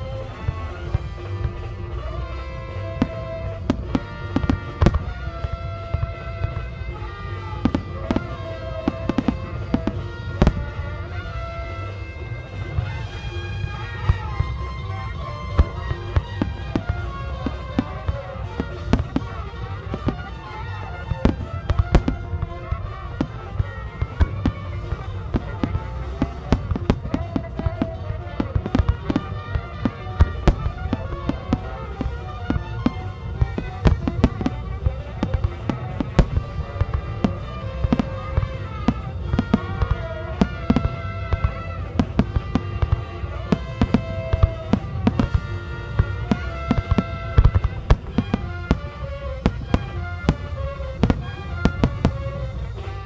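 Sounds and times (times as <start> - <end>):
firework shells bursting: 0.0 - 53.0
music playing: 0.0 - 53.0.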